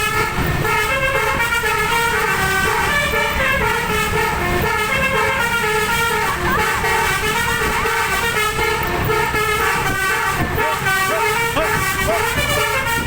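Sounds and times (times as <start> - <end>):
bus air horn playing a tune: 0.0 - 13.0
road and engine noise: 0.0 - 13.0.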